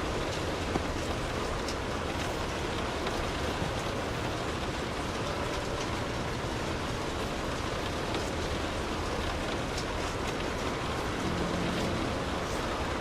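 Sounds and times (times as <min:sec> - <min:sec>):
rain pattering on car roof: 0:00.0 - 0:13.0.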